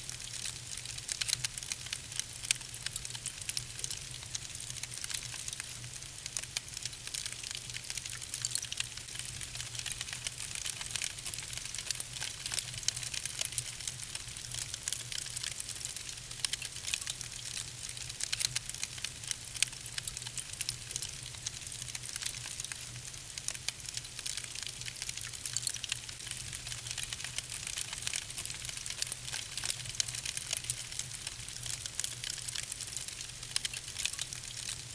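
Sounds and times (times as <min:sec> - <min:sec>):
logs crackling and popping: 0:00.1 - 0:34.9.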